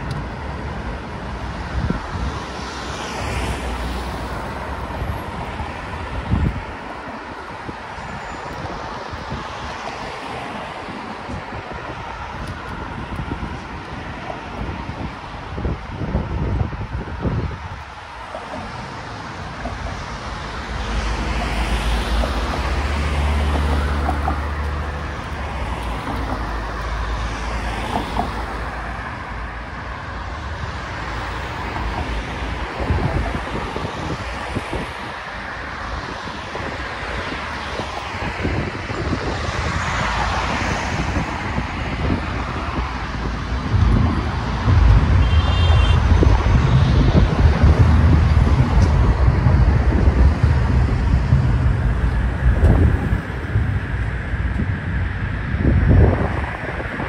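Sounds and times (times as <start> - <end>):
road traffic passing: 0.0 - 57.0
wind buffeting microphone: 0.0 - 57.0.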